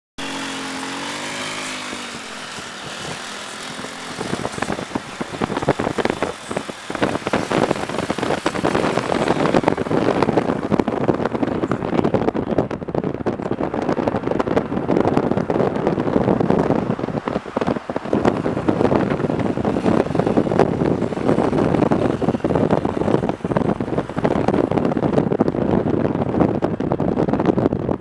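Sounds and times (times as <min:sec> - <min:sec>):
car engine hum: 0:00.2 - 0:28.0
wind buffeting microphone: 0:00.2 - 0:28.0.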